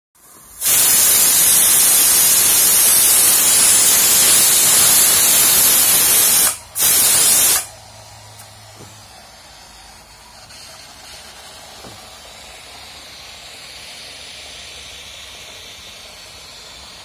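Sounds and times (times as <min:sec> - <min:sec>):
steam hissing loudly: 0:00.2 - 0:07.8, 0:08.9 - 0:17.0.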